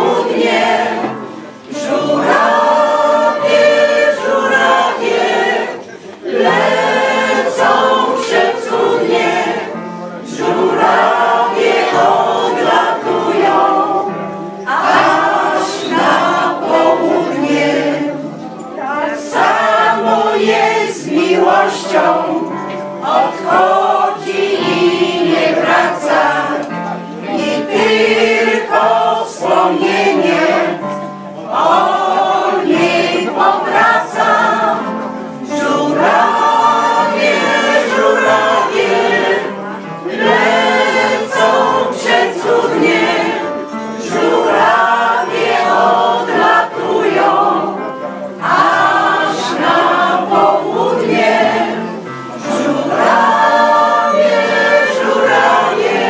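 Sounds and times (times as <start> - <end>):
mixed choir singing in harmony: 0.0 - 56.0.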